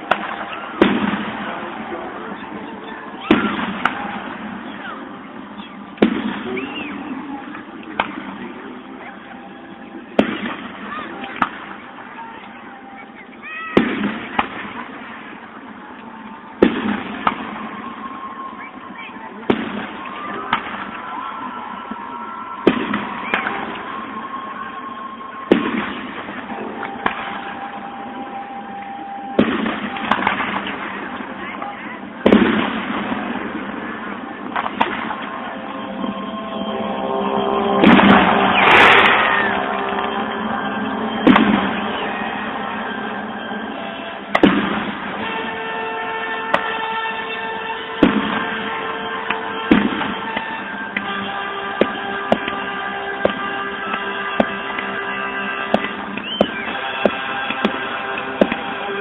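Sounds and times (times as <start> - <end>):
fireworks crackling pops: 0.0 - 9.4, 10.1 - 36.4, 37.3 - 59.0
fireworks bangs: 0.0 - 59.0.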